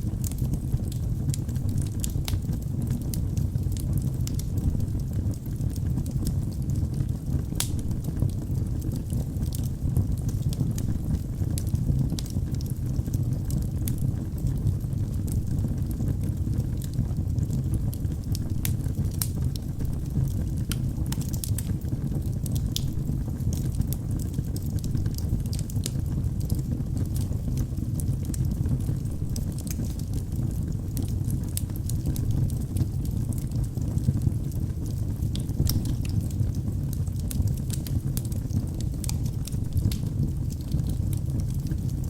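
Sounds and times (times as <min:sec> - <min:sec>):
burning wood crackling and popping: 0:00.0 - 0:42.0
low rumble of flames: 0:00.0 - 0:42.0.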